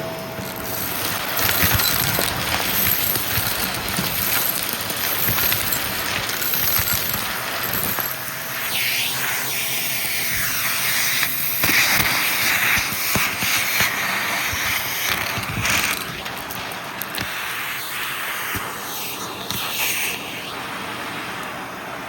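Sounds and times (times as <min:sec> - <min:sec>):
debris rattling in vacuum: 0:00.0 - 0:20.7
vacuum cleaner running: 0:00.0 - 0:22.0.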